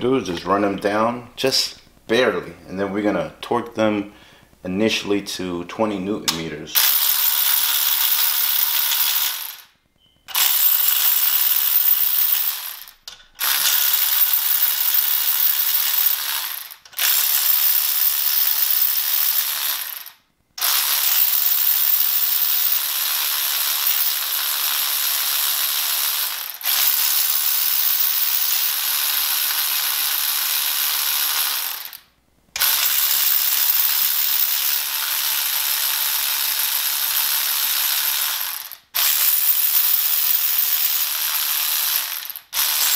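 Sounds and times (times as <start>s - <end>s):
electric ratchet whirring: 6.8s - 9.7s, 10.3s - 42.9s.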